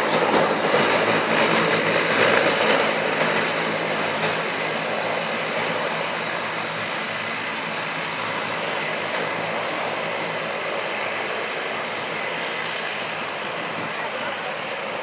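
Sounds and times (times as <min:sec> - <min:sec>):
distant jet engines running: 0:00.0 - 0:15.0.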